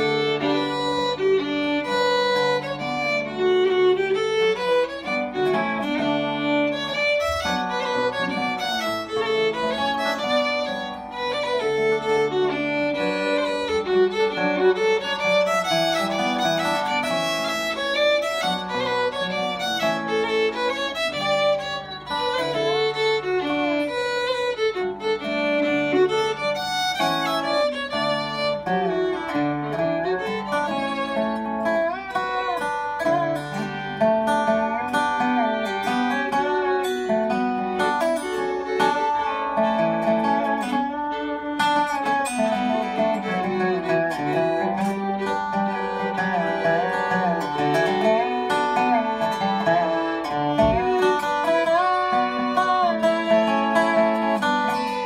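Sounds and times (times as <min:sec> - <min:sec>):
dobro picked and slid notes: 0:00.0 - 0:55.0
fiddle bowing a melody: 0:00.0 - 0:55.0.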